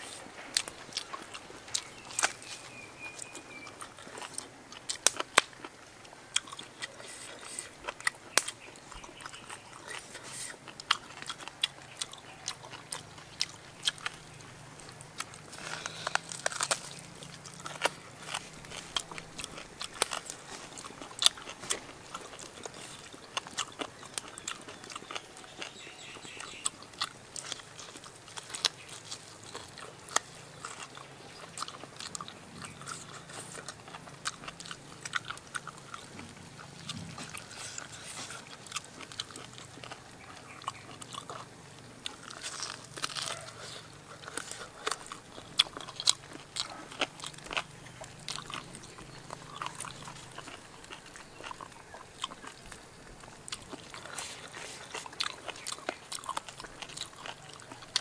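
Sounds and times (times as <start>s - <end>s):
crunching cartilage: 0.0s - 58.0s
wet chewing: 0.0s - 58.0s.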